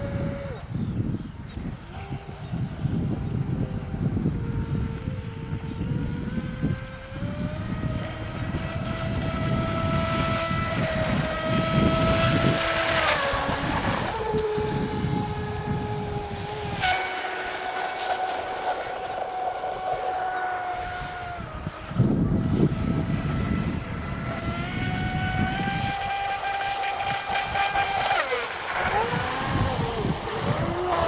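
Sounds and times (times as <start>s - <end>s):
electric motor whining: 0.0s - 31.0s
wind rumble on microphone: 0.0s - 31.0s.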